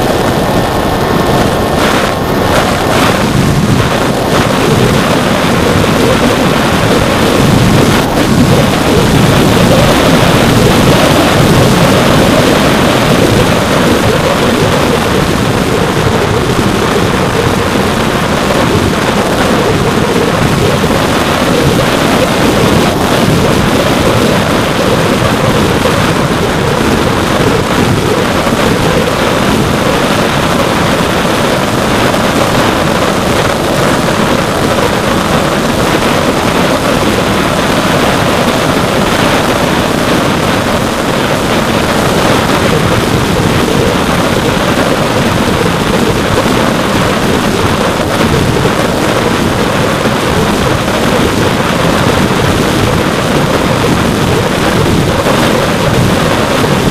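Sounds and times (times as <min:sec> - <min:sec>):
electric motor and propeller: 0:00.0 - 0:56.9
wind noise on microphone: 0:00.0 - 0:56.9.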